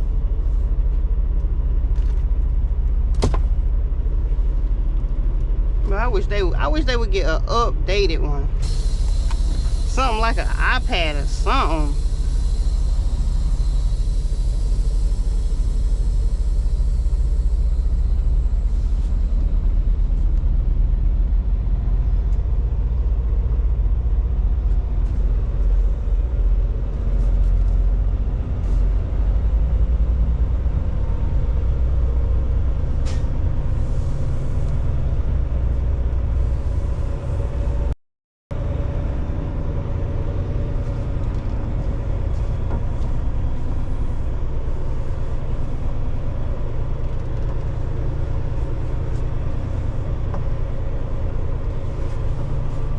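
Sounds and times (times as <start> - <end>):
truck diesel engine rumbling: 0.0 - 38.0, 38.6 - 52.9.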